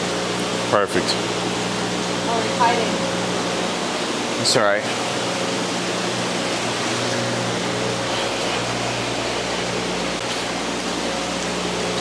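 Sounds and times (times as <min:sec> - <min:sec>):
pump low hum: 0:00.0 - 0:12.0.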